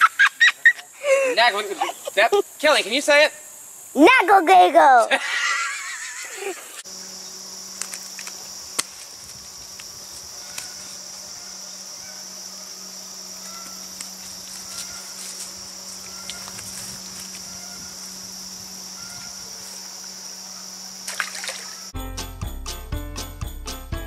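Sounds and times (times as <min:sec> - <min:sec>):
insect chorus high drone: 0:00.0 - 0:22.0.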